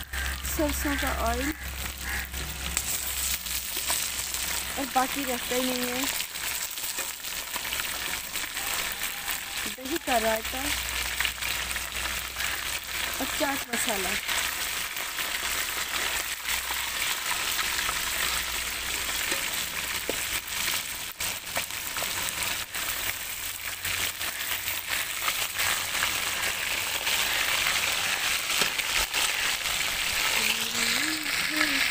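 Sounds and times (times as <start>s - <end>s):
fish sizzling in hot oil: 0.0s - 31.9s
oil crackling and popping: 0.0s - 31.9s.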